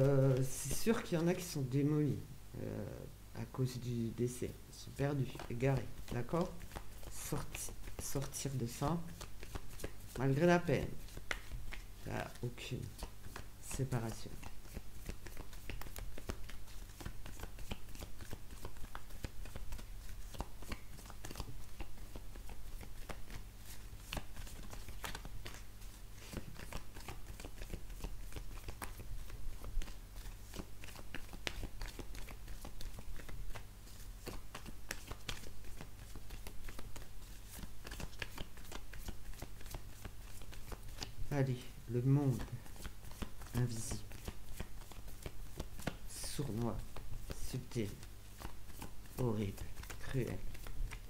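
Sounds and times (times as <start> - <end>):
low electrical hum: 0.0 - 51.0
cards shuffling: 4.9 - 51.0.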